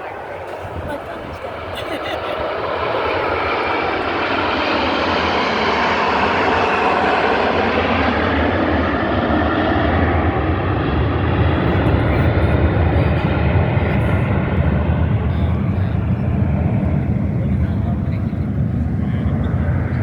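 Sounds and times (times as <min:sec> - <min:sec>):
airplane engines roaring: 0:00.0 - 0:20.0.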